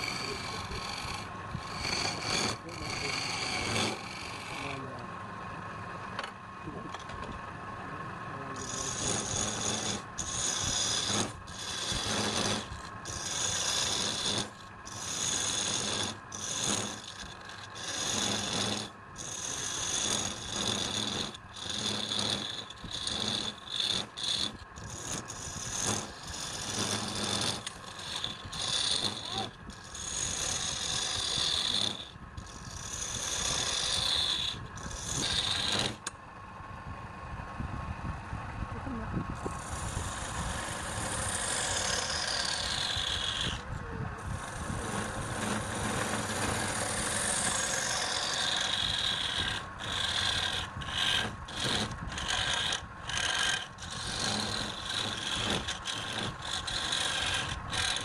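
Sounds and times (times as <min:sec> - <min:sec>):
tool scraping wood: 0:00.0 - 0:05.1, 0:08.4 - 0:36.2, 0:39.4 - 0:58.0
steady machine hum: 0:00.0 - 0:58.0.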